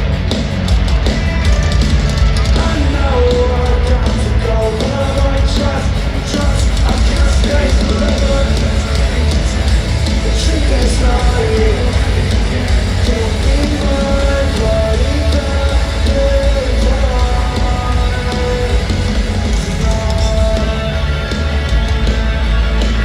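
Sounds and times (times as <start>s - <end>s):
rock band playing loudly: 0.0s - 23.0s
person singing: 2.5s - 21.2s.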